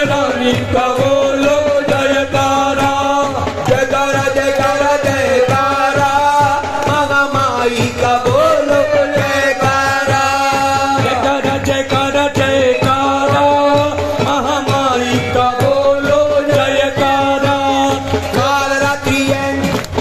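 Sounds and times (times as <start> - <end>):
steady drum beat: 0.0 - 20.0.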